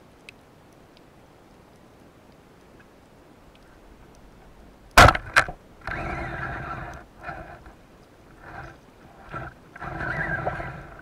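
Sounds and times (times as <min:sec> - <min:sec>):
line creaking and buzzing underwater: 0:00.2 - 0:11.0.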